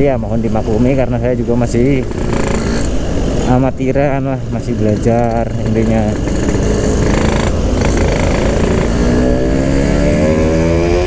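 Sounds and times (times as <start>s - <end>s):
motorcycle engine revving: 1.6s - 11.0s.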